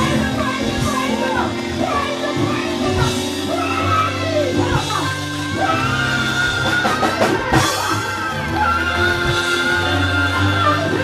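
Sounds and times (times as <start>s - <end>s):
gospel band playing: 0.0s - 11.0s
women singing: 0.0s - 11.0s.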